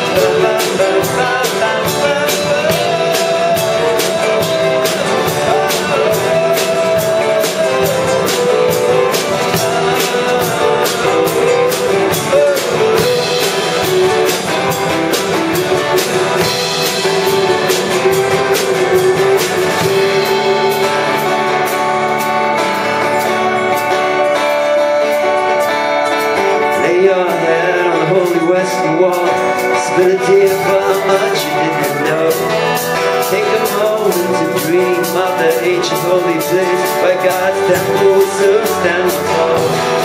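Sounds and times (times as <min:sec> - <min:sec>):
drums keeping a steady beat: 0:00.0 - 0:40.0
guitar melody: 0:00.0 - 0:40.0
keyboard: 0:00.0 - 0:40.0.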